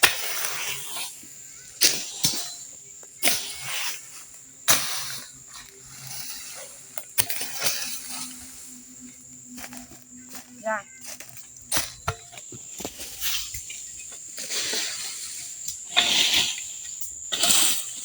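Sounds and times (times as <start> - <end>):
leaves and twigs rustling: 0.0 - 18.0.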